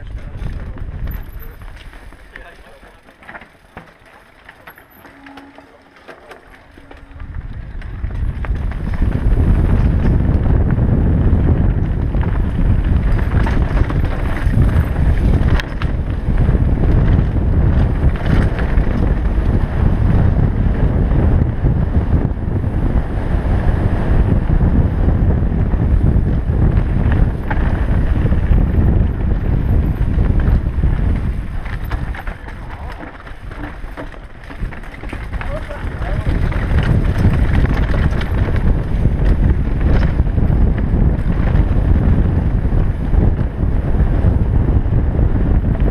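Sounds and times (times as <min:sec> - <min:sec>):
wind buffeting microphone: 0:00.0 - 0:03.0, 0:06.4 - 0:45.9
mountain bike rattling on trail: 0:00.0 - 0:45.9.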